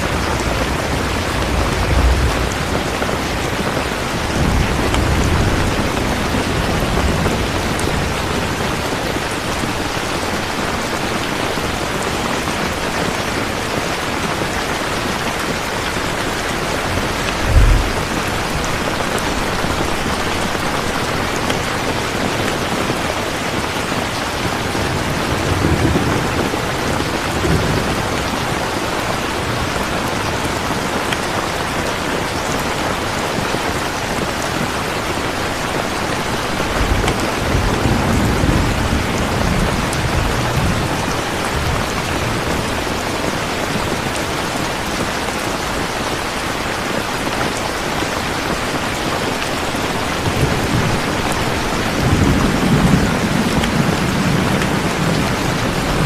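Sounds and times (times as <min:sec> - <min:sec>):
thunder rumbling: 0:00.0 - 0:30.8, 0:34.8 - 0:44.0, 0:49.6 - 0:56.0
steady rain: 0:00.0 - 0:56.0.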